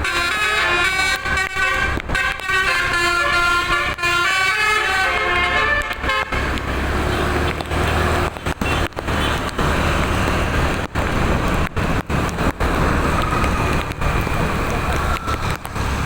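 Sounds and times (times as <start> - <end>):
heavy engine low rumble: 0.0 - 16.0.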